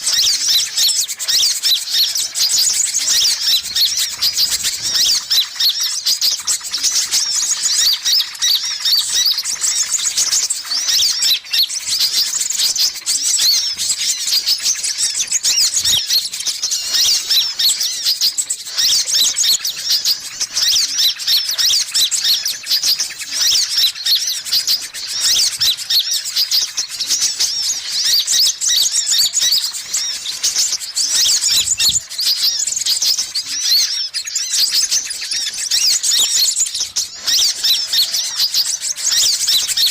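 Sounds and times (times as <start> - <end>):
sunbirds chattering and twittering: 0.0 - 39.9.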